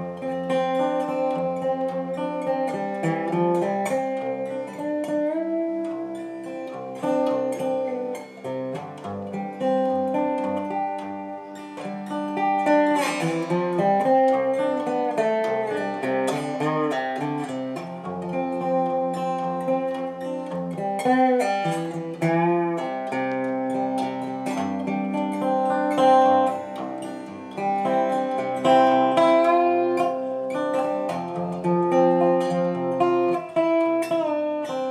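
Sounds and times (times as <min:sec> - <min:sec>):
acoustic guitar music: 0:00.0 - 0:34.9.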